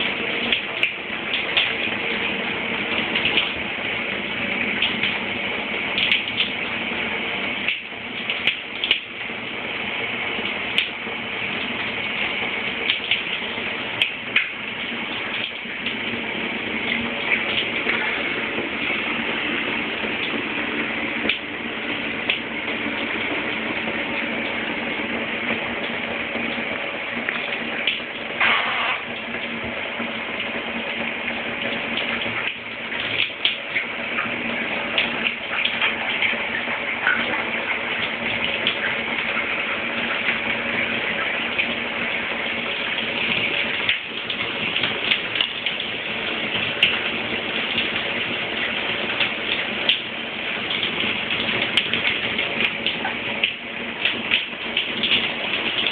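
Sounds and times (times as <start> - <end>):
shower water spraying: 0.0 - 55.9.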